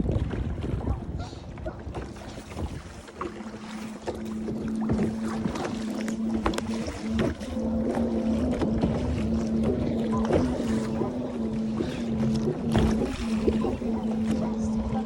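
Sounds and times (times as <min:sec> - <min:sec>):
knocks and splashes: 0:00.0 - 0:15.0
motorboat engine droning: 0:00.3 - 0:15.0.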